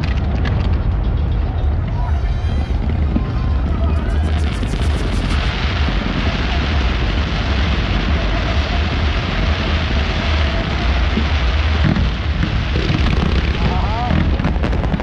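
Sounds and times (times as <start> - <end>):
fireworks booming: 0.0 - 15.0
fireworks crackle: 0.0 - 15.0.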